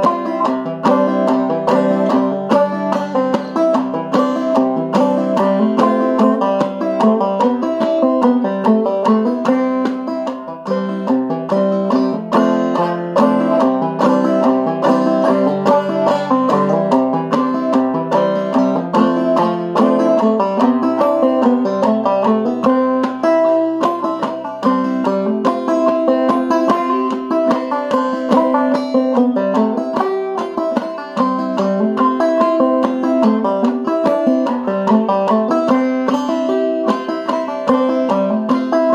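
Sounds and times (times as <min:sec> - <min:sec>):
banjo plucked rhythm: 0:00.0 - 0:38.9.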